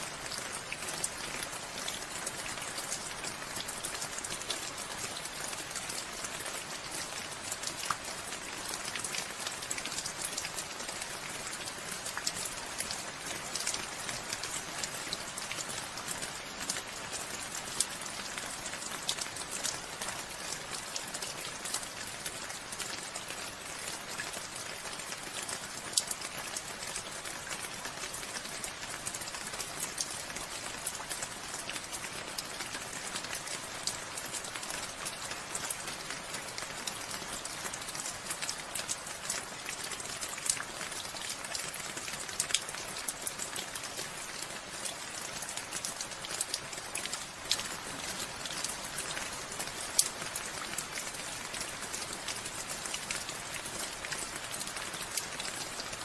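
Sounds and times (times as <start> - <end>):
raindrops ticking on surfaces: 0.0 - 56.0.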